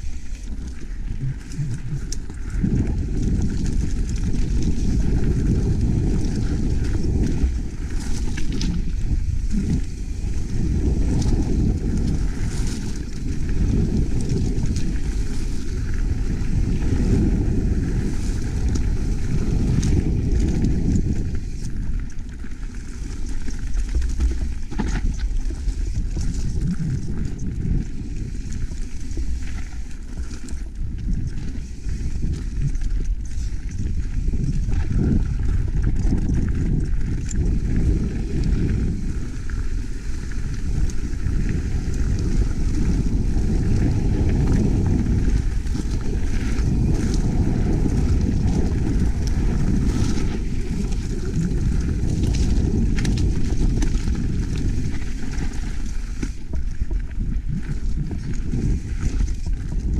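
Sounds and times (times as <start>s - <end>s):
bike rattling over rocks: 0.0s - 59.9s
wind on microphone: 0.0s - 59.9s.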